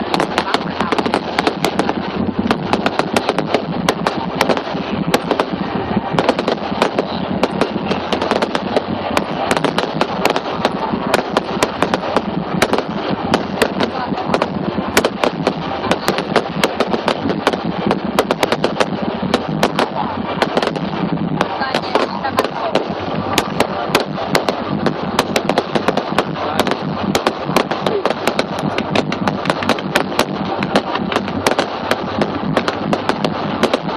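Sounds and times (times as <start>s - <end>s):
crowd noise: 0.0s - 33.9s
fireworks cracking and banging: 0.0s - 33.9s.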